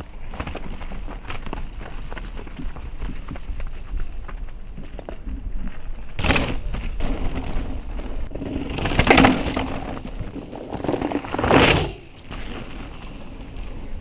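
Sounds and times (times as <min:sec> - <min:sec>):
bike tyres rolling over dirt: 0:00.0 - 0:14.0.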